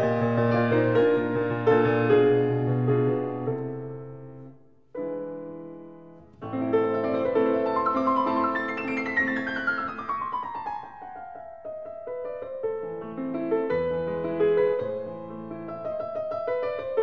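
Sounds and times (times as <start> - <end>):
piano chords and runs: 0.0 - 17.0.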